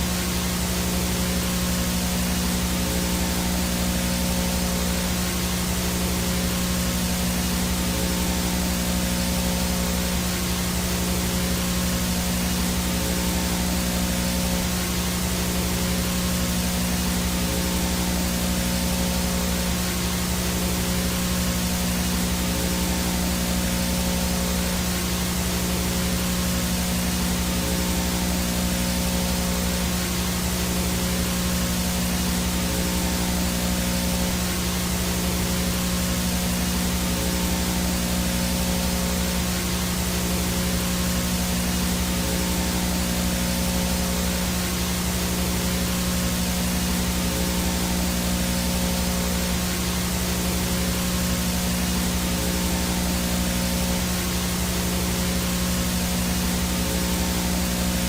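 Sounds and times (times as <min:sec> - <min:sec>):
low electrical hum: 0:00.0 - 0:58.0
static hiss: 0:00.0 - 0:58.0.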